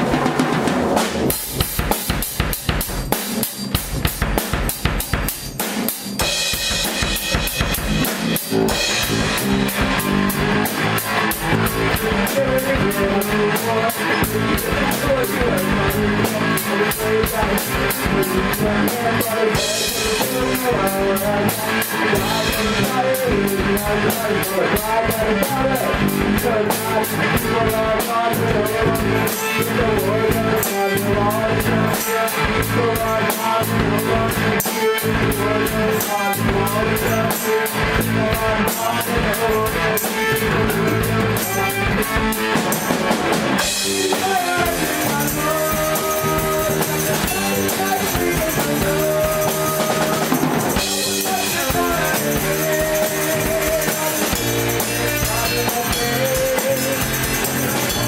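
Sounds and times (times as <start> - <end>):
fast drumming: 0.0 - 58.0
rock band playing: 0.0 - 58.0.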